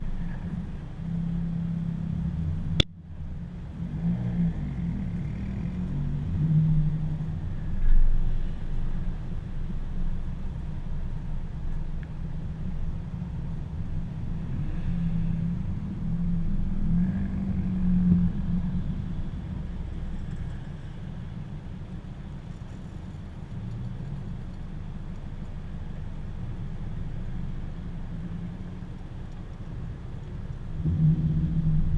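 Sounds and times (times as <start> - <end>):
car engine and exhaust rumbling: 0.0 - 31.9.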